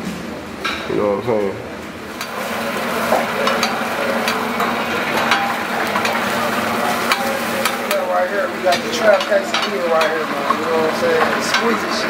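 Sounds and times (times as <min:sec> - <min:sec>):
chicken sizzling on a griddle: 0:02.1 - 0:12.0.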